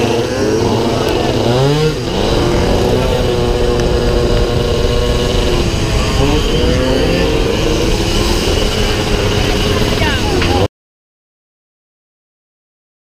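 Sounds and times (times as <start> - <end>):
scooter engines buzzing at high revs: 0.0 - 10.7.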